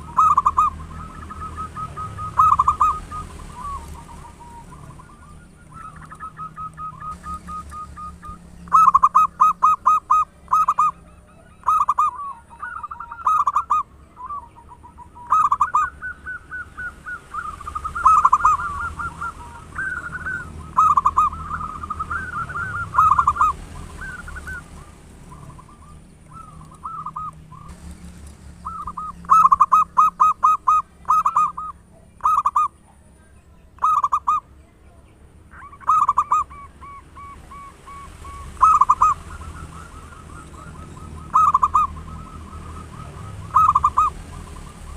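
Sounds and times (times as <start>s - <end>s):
dove cooing: 0.0s - 28.0s, 28.6s - 44.9s.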